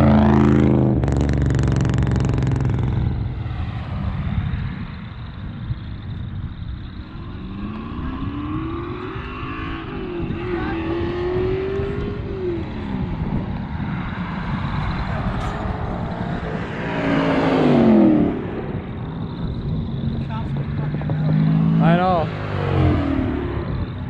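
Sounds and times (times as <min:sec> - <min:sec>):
car engine accelerating: 0:00.0 - 0:24.0
car passing close: 0:00.0 - 0:24.0.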